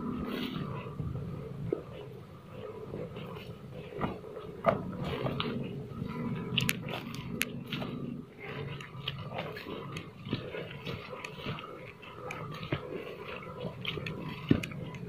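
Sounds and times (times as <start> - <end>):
footsteps on muddy dirt path: 0.0 - 15.0.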